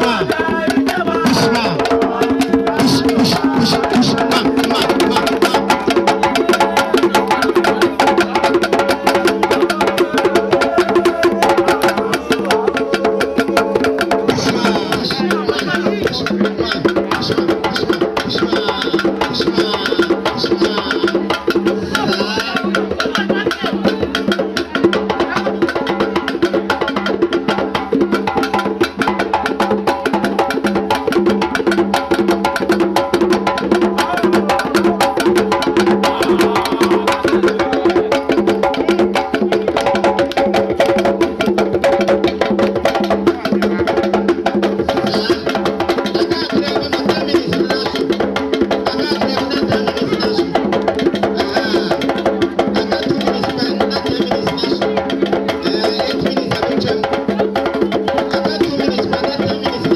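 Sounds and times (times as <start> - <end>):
music with fast percussion: 0.0 - 59.9.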